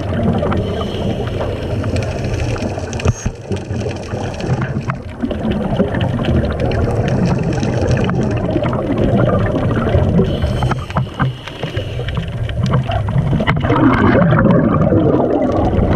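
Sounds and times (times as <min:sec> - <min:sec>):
underwater bubbles gurgling: 0:00.0 - 0:15.9.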